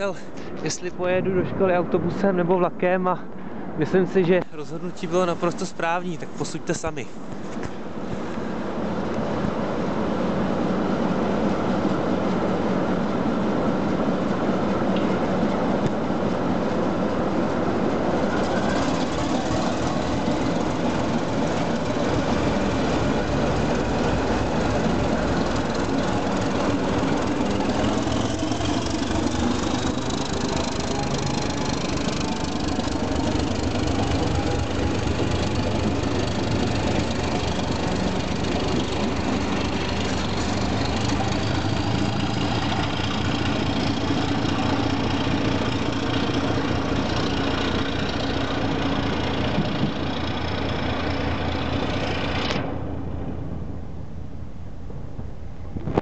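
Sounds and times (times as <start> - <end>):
diesel locomotive engine: 0.0 - 56.0
engine whine rising in pitch: 7.8 - 56.0.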